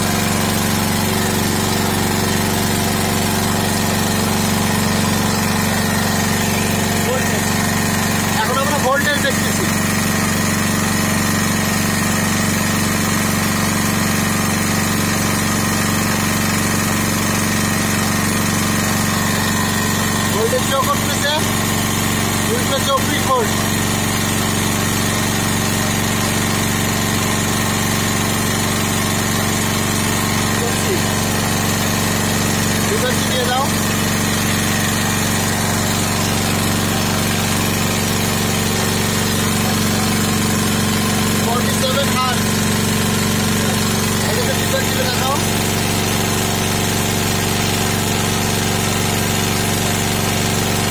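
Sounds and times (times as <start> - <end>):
generator engine running: 0.0 - 50.9.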